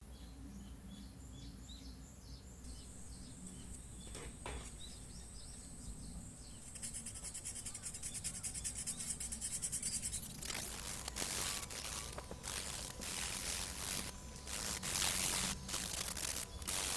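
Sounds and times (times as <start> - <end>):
low steady hum: 0.0 - 16.9
small birds chirping: 0.0 - 16.9
rapid rhythmic scratching: 2.7 - 16.9.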